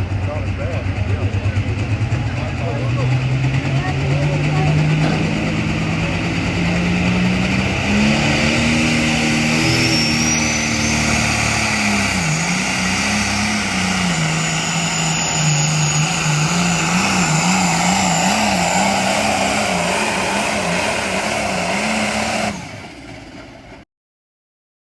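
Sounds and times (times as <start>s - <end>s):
tractor engine running hard: 0.0s - 23.8s.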